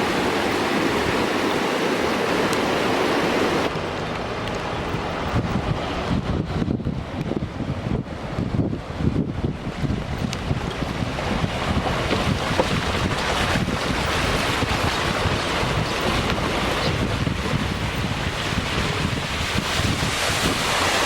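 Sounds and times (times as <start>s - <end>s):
rain rushing water: 0.0s - 21.0s
wind buffeting microphone: 0.0s - 21.0s.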